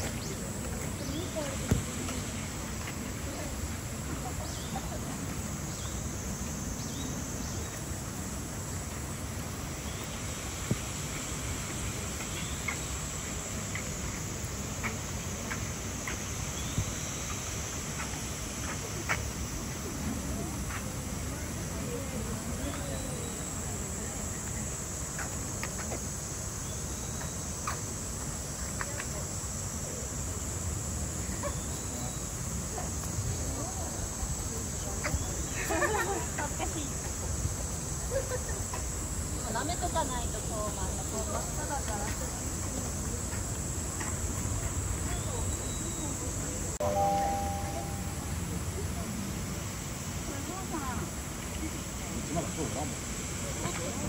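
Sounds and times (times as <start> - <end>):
cicadas buzzing: 0.0 - 54.0
outdoor background noise: 0.0 - 54.0.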